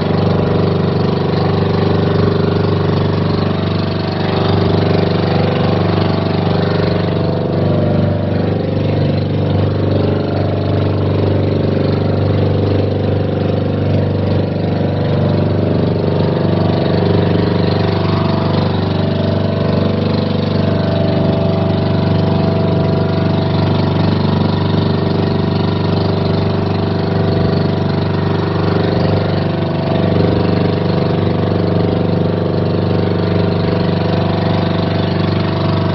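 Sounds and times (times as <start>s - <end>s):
boat engine droning: 0.0s - 35.9s.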